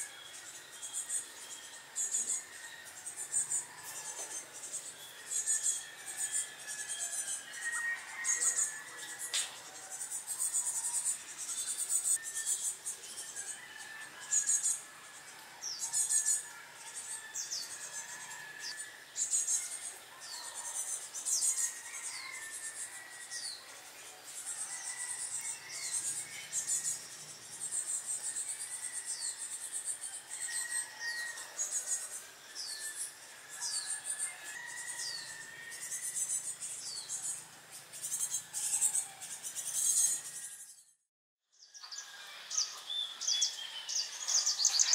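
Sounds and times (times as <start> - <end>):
insects buzzing: 0.0 - 40.6.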